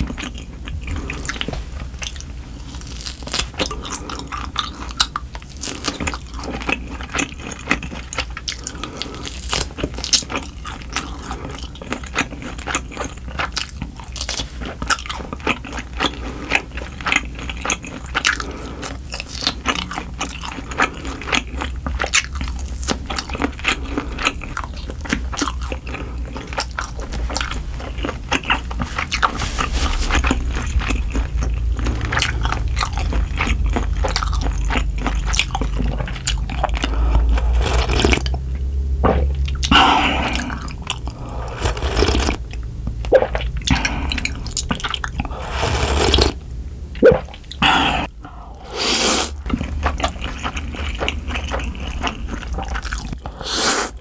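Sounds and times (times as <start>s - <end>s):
close chewing with wet clicks: 0.0s - 29.4s, 30.2s - 45.3s, 49.3s - 53.4s.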